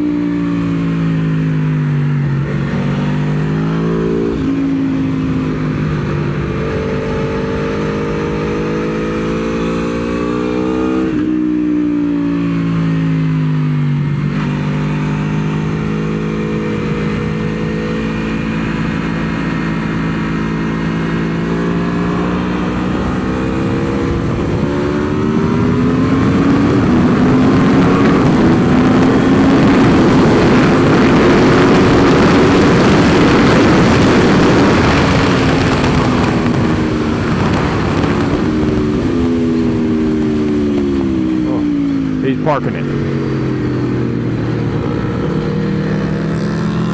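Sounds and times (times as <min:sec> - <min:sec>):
motorcycle engine revving: 0:00.0 - 0:46.9
wind noise: 0:01.9 - 0:11.2, 0:15.4 - 0:42.2, 0:42.8 - 0:46.9.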